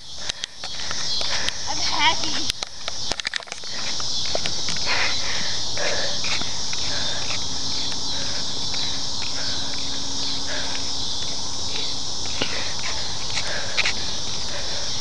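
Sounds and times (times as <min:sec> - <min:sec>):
footsteps on pavement: 0:00.0 - 0:15.0
insects chirping: 0:00.0 - 0:15.0.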